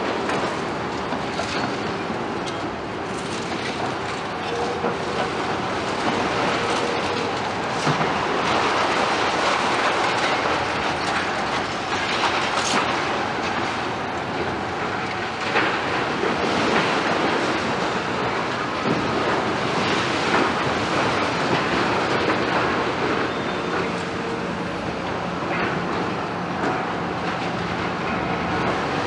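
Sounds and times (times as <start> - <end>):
excavator diesel engines running: 0.0 - 29.0.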